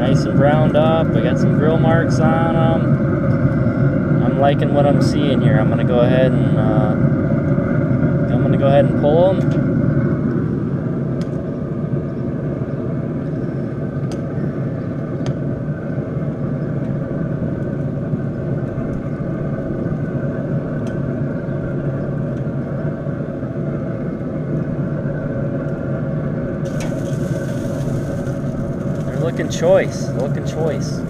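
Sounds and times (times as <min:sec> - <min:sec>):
blower fan humming: 0:00.0 - 0:31.0.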